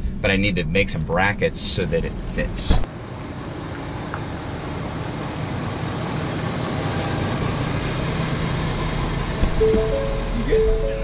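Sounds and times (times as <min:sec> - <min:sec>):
truck engine running: 0:00.4 - 0:11.0.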